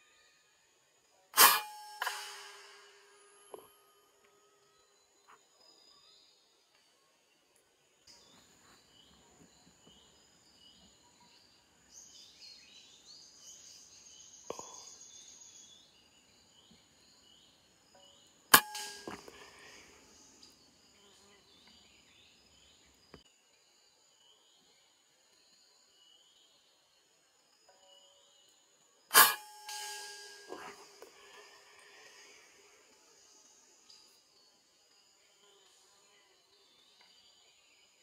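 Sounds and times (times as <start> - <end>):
faint high chirps: 0.0 - 7.3, 8.1 - 23.2, 27.7 - 38.0.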